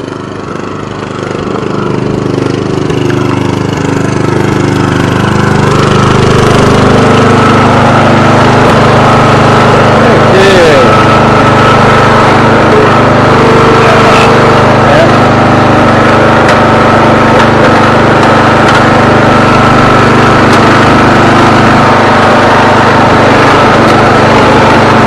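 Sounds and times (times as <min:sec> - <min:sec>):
lawn tractor engine running: 0:00.0 - 0:25.0.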